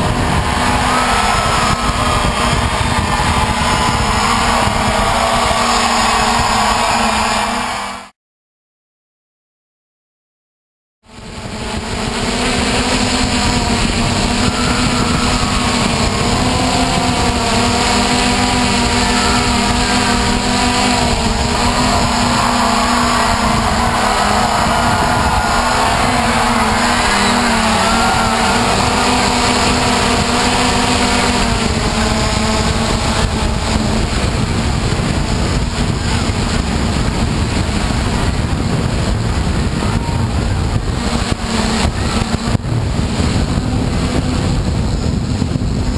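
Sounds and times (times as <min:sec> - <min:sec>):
drone propellers buzzing: 0:00.0 - 0:08.1, 0:11.0 - 0:45.9
rushing noise: 0:00.0 - 0:08.1, 0:11.1 - 0:45.9.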